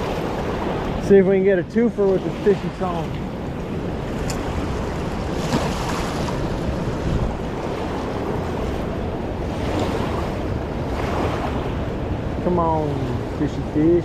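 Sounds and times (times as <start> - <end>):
river rushing: 0.0 - 14.0
wind buffeting microphone: 0.0 - 14.0.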